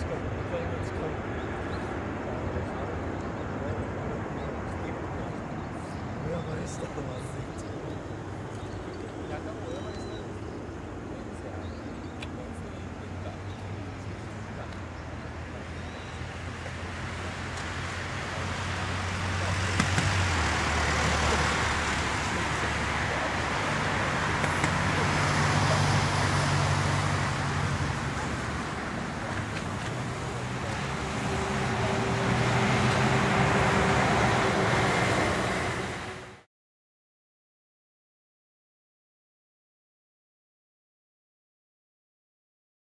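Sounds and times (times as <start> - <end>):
low engine hums: 0.0 - 36.4.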